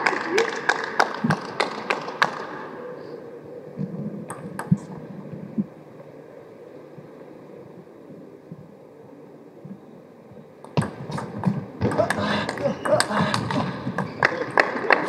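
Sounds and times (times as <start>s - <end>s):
faint steady hall hum: 0.0s - 15.0s.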